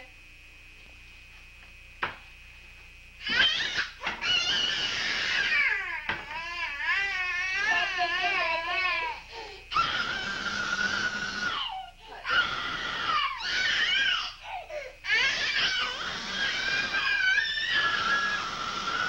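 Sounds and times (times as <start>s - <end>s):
toddler crying: 3.2s - 19.0s.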